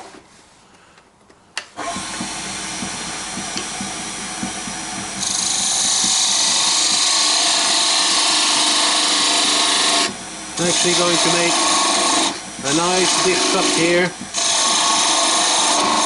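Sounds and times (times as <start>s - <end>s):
lathe motor hum and whine: 1.8s - 16.0s
tool cutting spinning wood: 1.8s - 16.0s.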